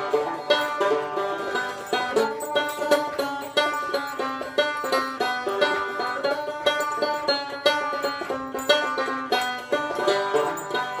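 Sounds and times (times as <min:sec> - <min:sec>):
banjo music: 0:00.0 - 0:11.0.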